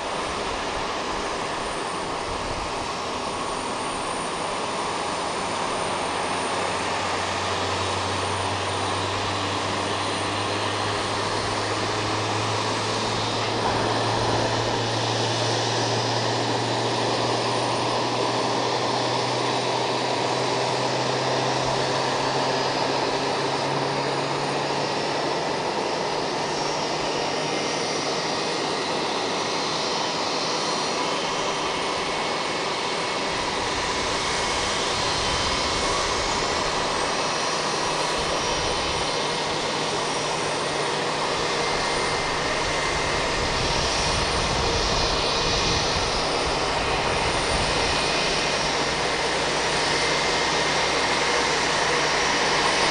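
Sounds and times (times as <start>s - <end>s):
jet engines rushing: 0.0s - 52.9s.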